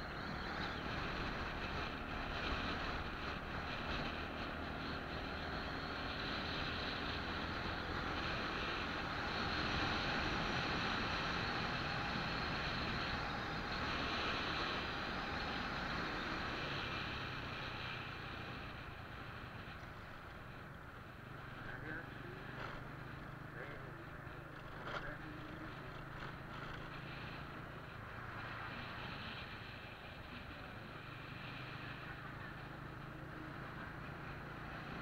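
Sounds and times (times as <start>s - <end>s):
low engine hum: 0.0s - 35.0s
wind and road noise: 0.0s - 35.0s.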